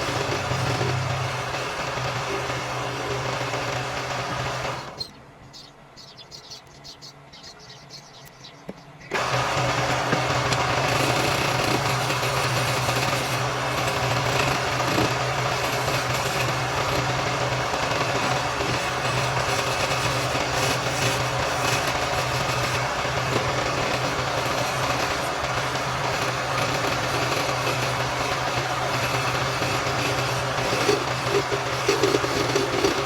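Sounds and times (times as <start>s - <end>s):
lathe scraping wood: 0.0s - 5.1s, 9.1s - 33.0s
lathe motor hum: 0.0s - 8.0s, 9.1s - 33.0s.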